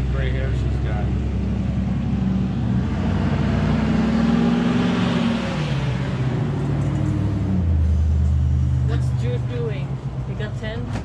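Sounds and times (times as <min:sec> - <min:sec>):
car engine running: 0:00.0 - 0:10.9
road noise of passing vehicle: 0:00.0 - 0:11.0.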